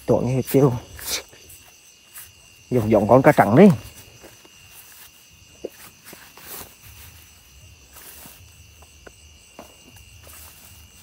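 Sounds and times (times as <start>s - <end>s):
crickets and night insects: 0.0s - 11.0s
footfalls through grass: 1.4s - 11.0s.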